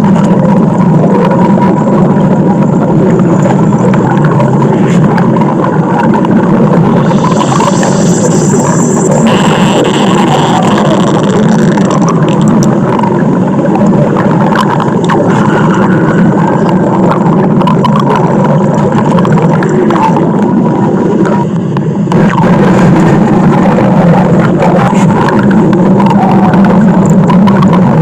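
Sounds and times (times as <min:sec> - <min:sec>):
stomach growling: 0:00.0 - 0:28.0.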